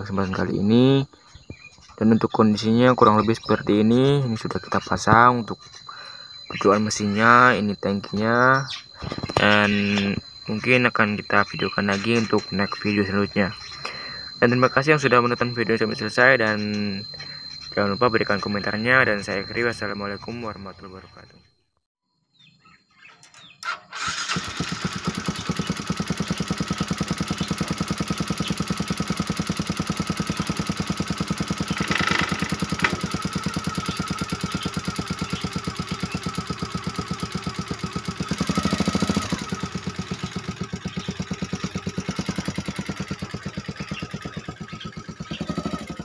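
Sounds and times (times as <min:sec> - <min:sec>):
motorcycle engine idling and revving: 0:00.0 - 0:21.1, 0:23.9 - 0:46.0.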